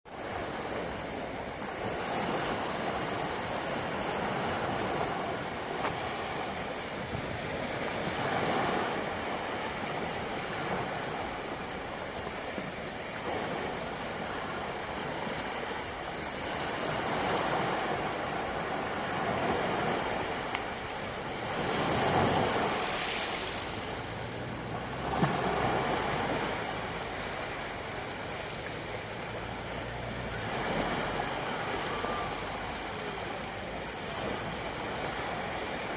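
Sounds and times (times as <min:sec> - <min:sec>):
sea waves washing ashore: 0:00.1 - 0:35.9.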